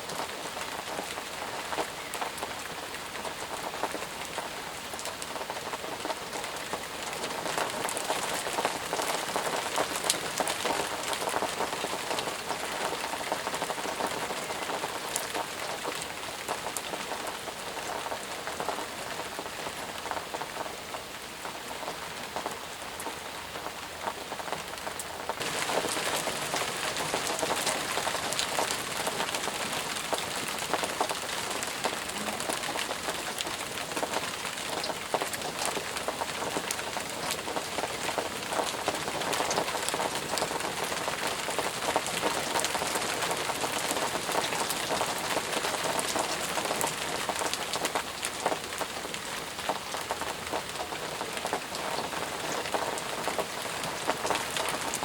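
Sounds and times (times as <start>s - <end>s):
rain falling in a forest: 0.0s - 55.0s.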